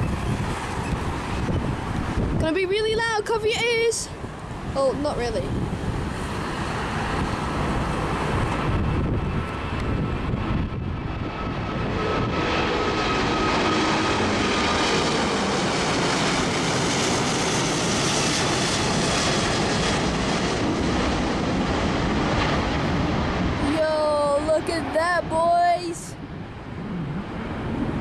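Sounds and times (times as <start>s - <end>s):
jet aircraft climbing: 0.0s - 28.0s.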